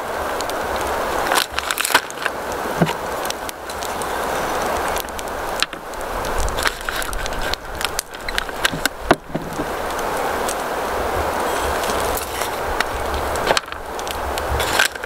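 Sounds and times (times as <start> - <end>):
steady hiss: 0.0 - 15.0
foil bag crinkling: 0.4 - 9.7, 11.4 - 15.0.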